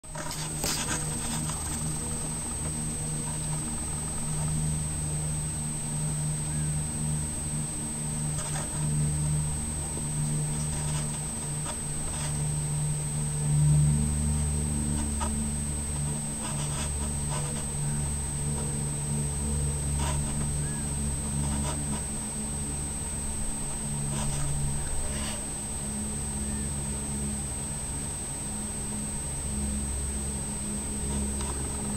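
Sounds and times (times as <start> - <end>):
high-pitched whine: 0.0 - 31.9
low mechanical hum: 0.0 - 31.9.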